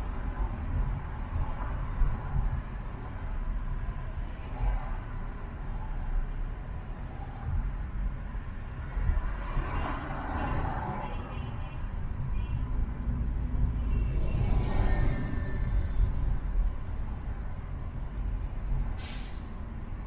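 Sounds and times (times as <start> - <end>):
passing traffic: 0.0 - 20.0
road and engine rumble: 0.0 - 20.0.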